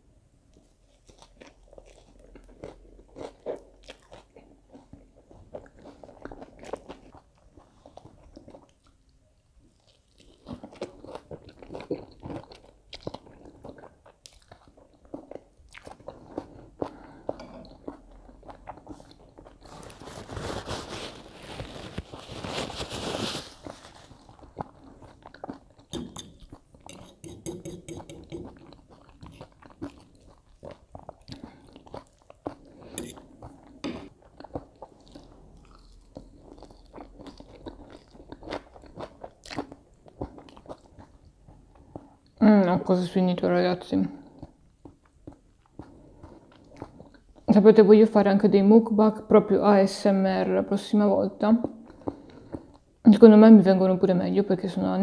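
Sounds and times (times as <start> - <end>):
person chewing crunchy salad: 0.5 - 42.4, 44.2 - 47.5, 51.7 - 52.9.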